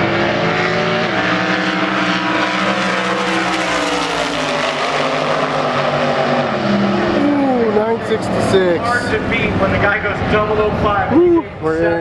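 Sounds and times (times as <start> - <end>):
drag racing cars at full throttle: 0.0 - 12.0.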